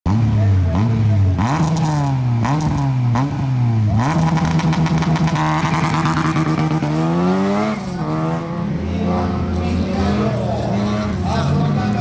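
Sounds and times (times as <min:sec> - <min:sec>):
race car engine revving: 0:00.1 - 0:12.0.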